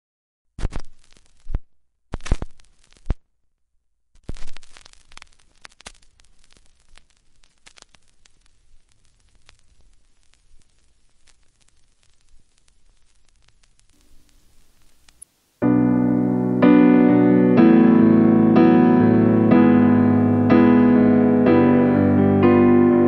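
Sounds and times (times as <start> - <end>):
vinyl record crackle and pops: 0.5 - 23.0.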